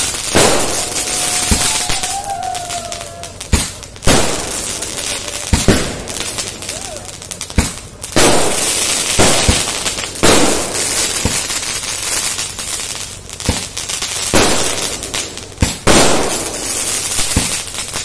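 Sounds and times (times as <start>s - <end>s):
firework bangs with crackle: 0.0s - 18.0s.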